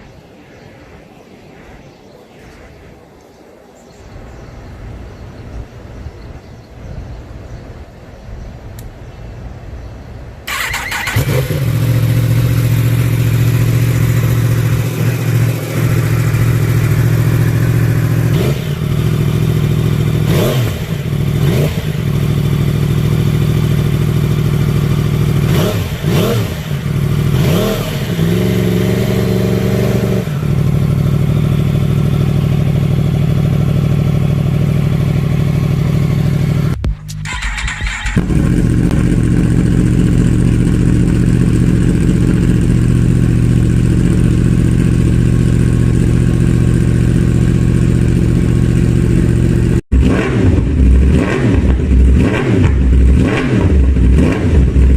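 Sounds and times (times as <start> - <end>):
motorcycle engine revving and idling: 10.5 - 54.9.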